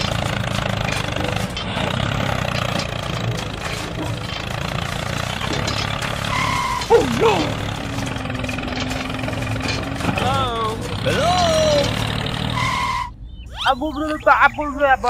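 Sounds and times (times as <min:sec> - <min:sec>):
small engine running: 0:00.0 - 0:13.5.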